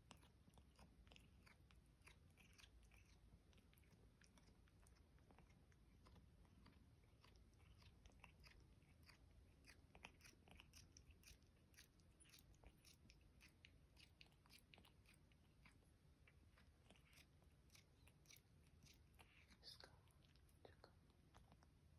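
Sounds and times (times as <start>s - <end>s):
cat mouth clicks and smacks: 0.0s - 21.9s.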